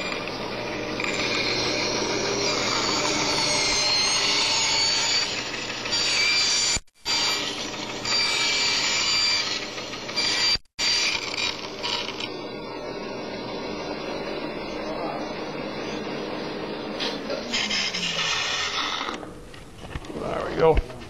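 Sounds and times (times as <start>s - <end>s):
bandsaw cutting plywood: 0.0s - 12.4s, 14.3s - 19.2s
high-pitched blade whine: 0.0s - 19.2s.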